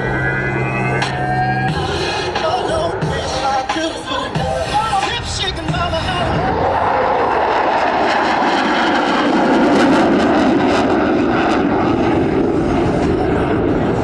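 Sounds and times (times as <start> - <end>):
fighter jet flying by: 0.0 - 14.0.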